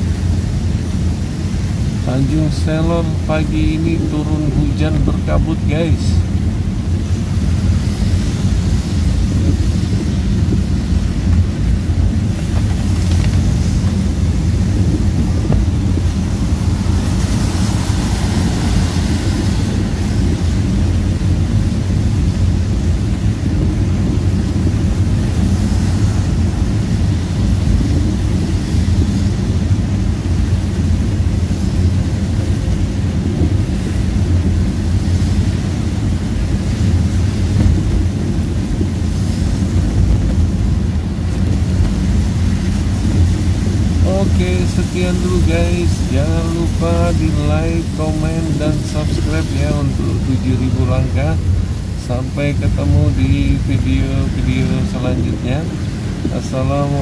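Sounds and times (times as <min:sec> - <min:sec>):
car rumbling from inside cabin: 0:00.0 - 0:57.0
tyres hissing on wet road: 0:00.0 - 0:57.0.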